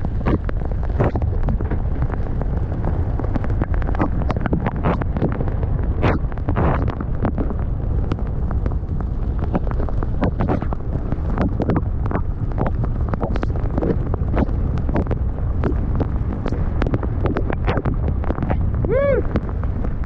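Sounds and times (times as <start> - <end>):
low rumble: 0.0 - 20.0
wind buffeting microphone: 0.0 - 20.0.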